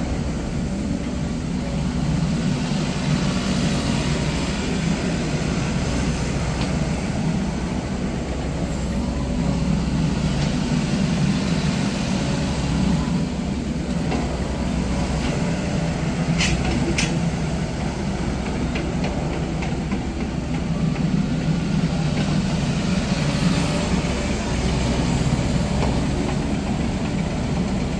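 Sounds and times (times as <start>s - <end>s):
excavator diesel engine drone: 0.0s - 27.9s.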